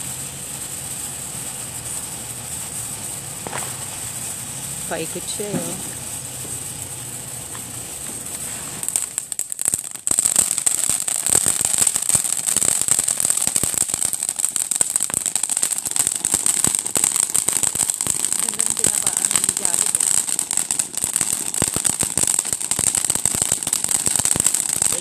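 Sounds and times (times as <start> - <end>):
fireworks fountain hissing: 0.0 - 25.0
fireworks rapid crackling: 0.0 - 25.0.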